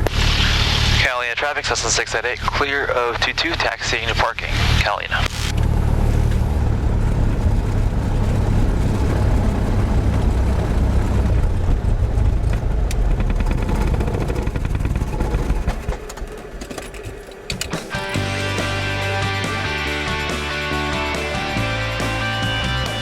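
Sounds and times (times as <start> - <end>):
small plane engine running: 0.0 - 23.0.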